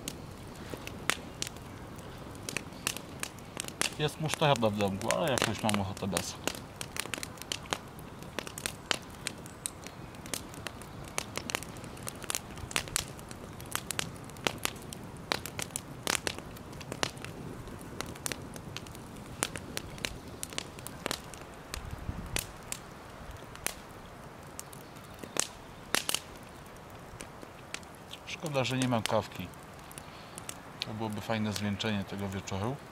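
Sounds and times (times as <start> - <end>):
faint steady hiss: 0.0 - 32.9
wood fire crackling: 0.0 - 32.9.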